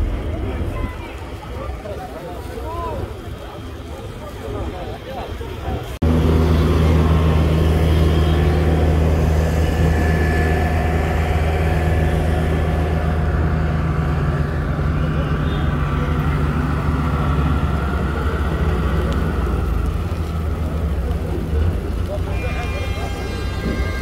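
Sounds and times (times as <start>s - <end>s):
road roller diesel engines droning: 0.0s - 24.0s.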